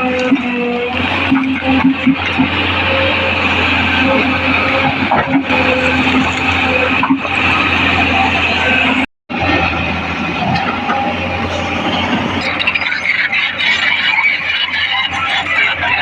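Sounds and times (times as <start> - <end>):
excavator engine drone: 0.0 - 16.0
hydraulic whine: 0.0 - 16.0.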